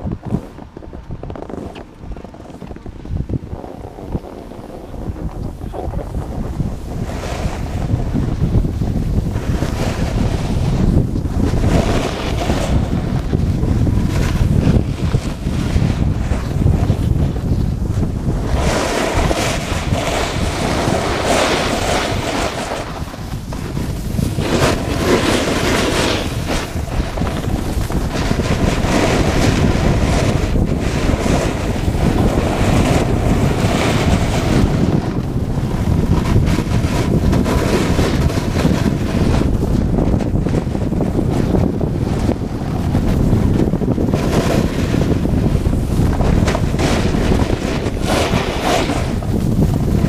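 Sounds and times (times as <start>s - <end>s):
snowboard edges scraping snow: 0.0s - 50.0s
wind buffeting microphone: 0.0s - 50.0s.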